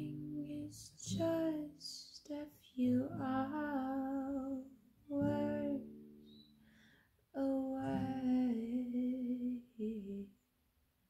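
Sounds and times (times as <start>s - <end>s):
woman singing: 0.0s - 6.1s, 7.4s - 10.3s.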